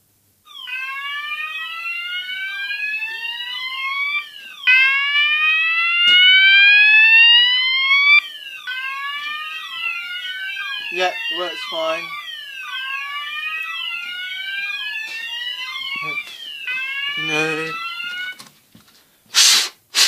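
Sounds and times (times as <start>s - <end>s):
fire alarm whoop sweeps: 0.5s - 18.4s
short falling alarm sweeps: 0.5s - 18.4s.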